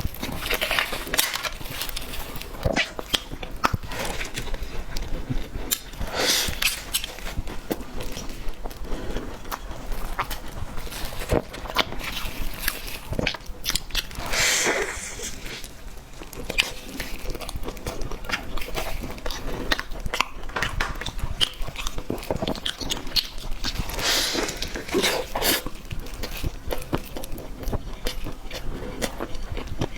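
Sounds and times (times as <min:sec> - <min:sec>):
biting and chewing cake: 0:00.0 - 0:14.4, 0:15.4 - 0:29.9.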